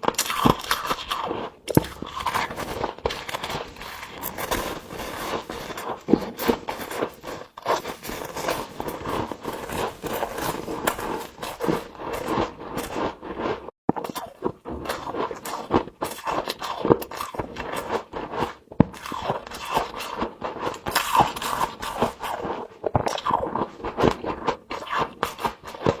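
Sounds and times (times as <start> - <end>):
frost crunching while chewed: 0.0 - 26.0.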